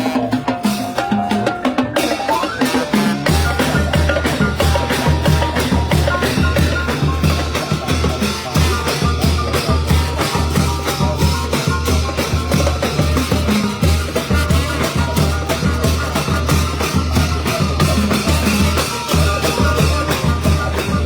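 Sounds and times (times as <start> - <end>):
brass band playing: 0.0 - 21.0
driving drum beat: 0.0 - 21.0.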